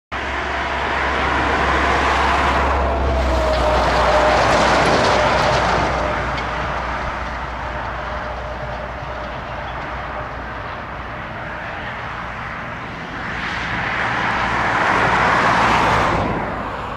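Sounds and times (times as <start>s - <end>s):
jet engine roar and whine: 0.2s - 16.9s.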